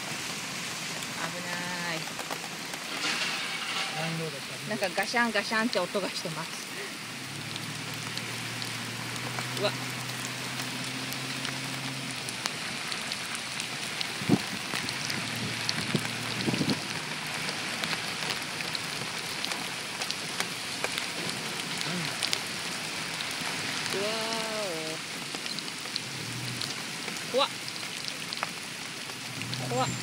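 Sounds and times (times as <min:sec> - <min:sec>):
heavy rain on a car: 0:00.0 - 0:30.0.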